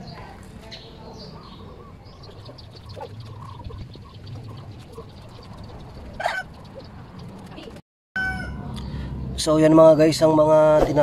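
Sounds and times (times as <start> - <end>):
birds calling: 0.0 - 9.4.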